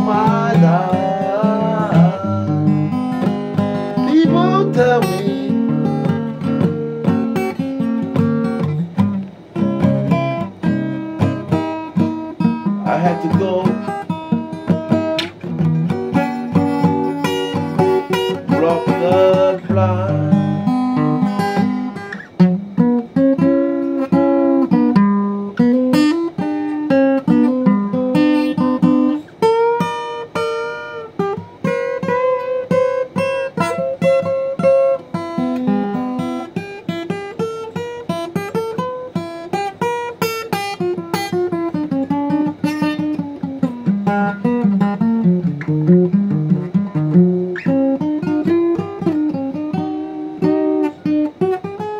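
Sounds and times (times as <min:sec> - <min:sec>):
acoustic blues guitar: 0:00.0 - 0:51.9.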